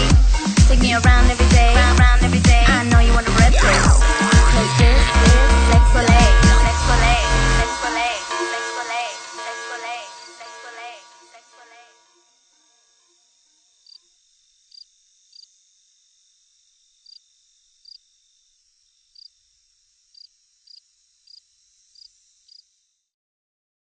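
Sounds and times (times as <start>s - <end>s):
steady high hiss: 0.0s - 23.1s
crickets chirping: 2.8s - 23.0s.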